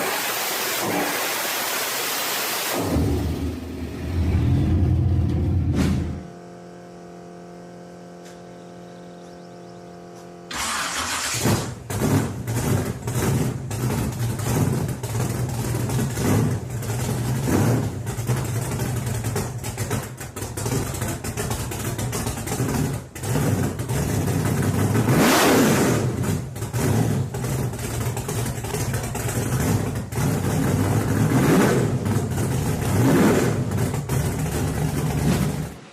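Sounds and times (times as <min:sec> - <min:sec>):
muscle car engine revving: 0:02.7 - 0:35.9.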